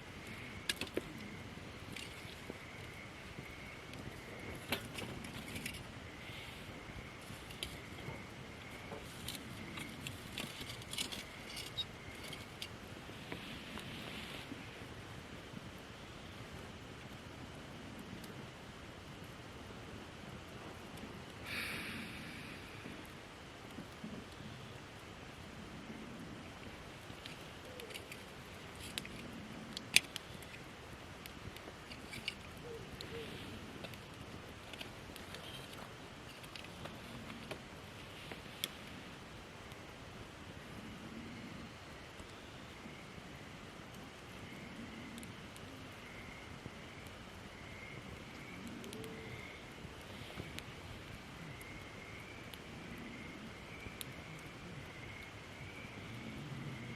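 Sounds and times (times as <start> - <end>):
fire hissing: 0.0 - 56.2
campfire crackling and popping: 0.0 - 56.9.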